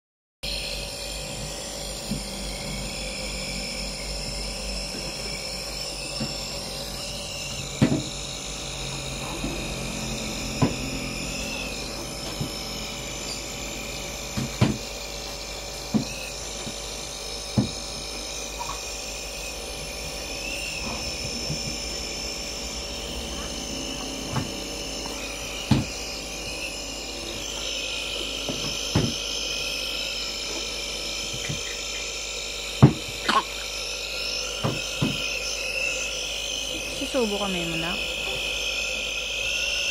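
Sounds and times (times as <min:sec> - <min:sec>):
nebuliser hum with high whine: 0:00.4 - 0:39.9.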